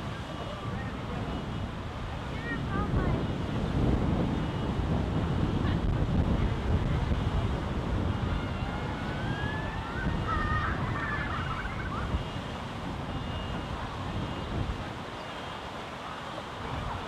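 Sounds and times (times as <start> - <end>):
wind buffeting the microphone: 0.0 - 15.2, 16.5 - 17.0.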